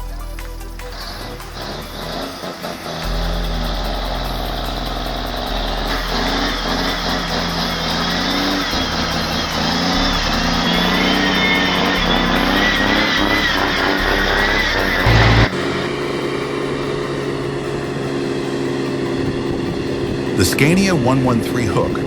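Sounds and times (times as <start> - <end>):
heavy truck engine under load: 0.9 - 22.0
thin high whine: 0.9 - 22.0.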